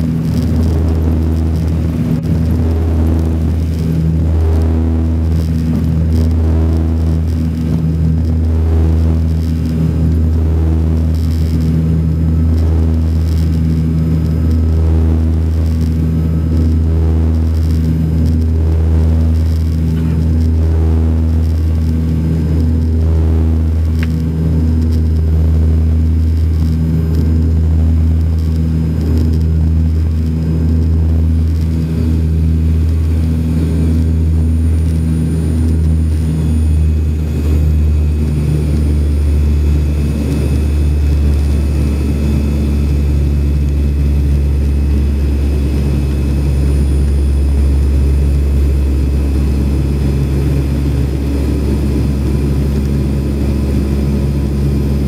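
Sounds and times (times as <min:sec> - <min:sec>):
propeller hum in cabin: 0:00.0 - 0:55.0.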